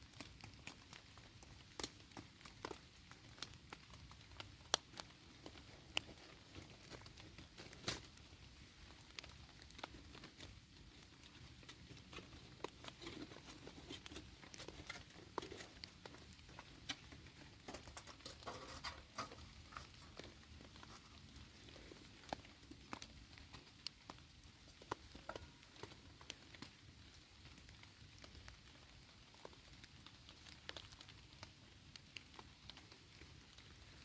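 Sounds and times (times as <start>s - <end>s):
raindrops pattering: 0.0s - 34.0s.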